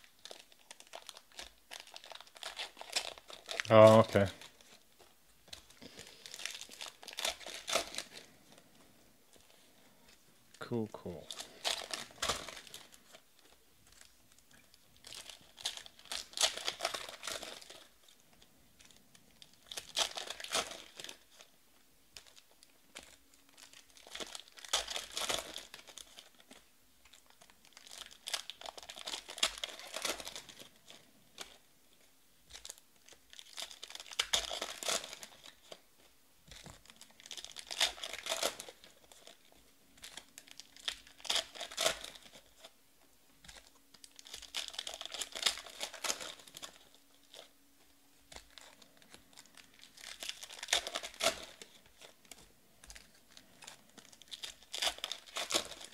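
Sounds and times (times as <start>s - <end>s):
foil wrappers torn and crinkled: 0.0s - 8.7s, 11.2s - 42.8s, 43.4s - 55.9s.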